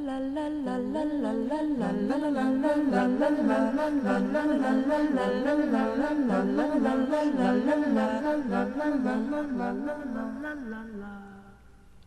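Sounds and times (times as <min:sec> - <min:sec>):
person singing wordless melody: 0:00.0 - 0:11.8.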